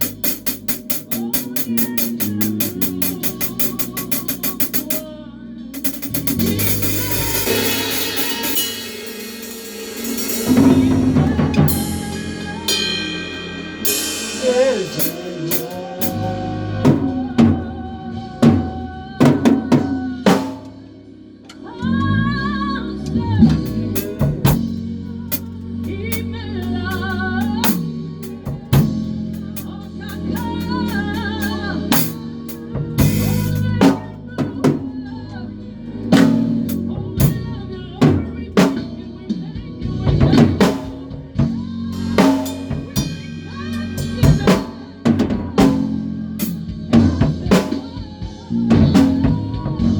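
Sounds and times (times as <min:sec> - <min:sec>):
band playing live: 0:00.0 - 0:05.1, 0:05.7 - 0:20.8, 0:21.6 - 0:49.9
drum kit beating: 0:00.0 - 0:05.1, 0:05.7 - 0:20.9, 0:23.1 - 0:49.9
bass line: 0:00.0 - 0:49.9.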